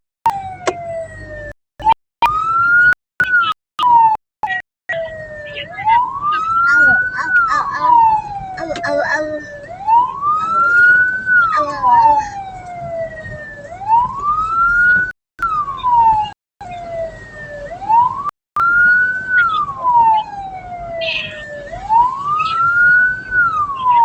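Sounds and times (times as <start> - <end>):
siren wailing: 0.3 - 24.0.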